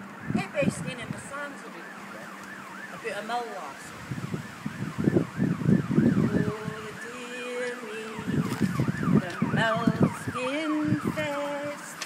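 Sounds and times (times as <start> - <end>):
siren yelping: 0.0 - 12.0.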